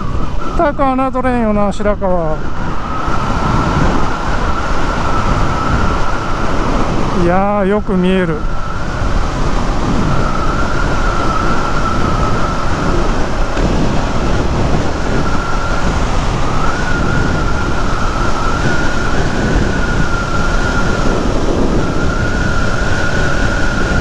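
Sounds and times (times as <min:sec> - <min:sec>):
steady high whistle: 0:00.0 - 0:24.0
wind rushing over microphone: 0:00.0 - 0:24.0.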